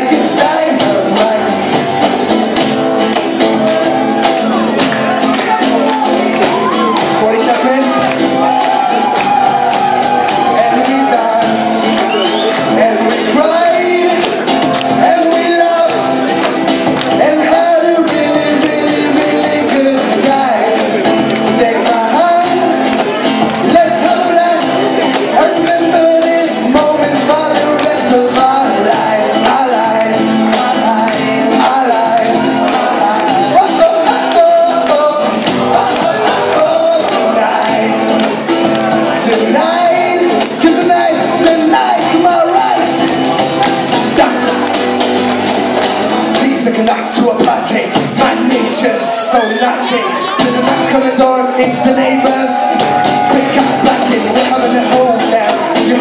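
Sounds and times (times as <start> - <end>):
lead vocal singing: 0.0 - 2.3, 3.4 - 45.0, 46.2 - 56.0
electric guitar: 0.0 - 56.0.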